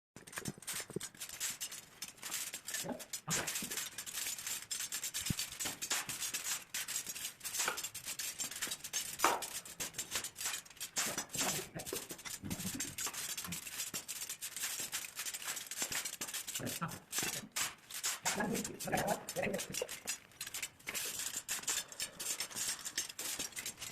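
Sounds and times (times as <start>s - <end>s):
short scratchy clicks: 0.2s - 23.9s.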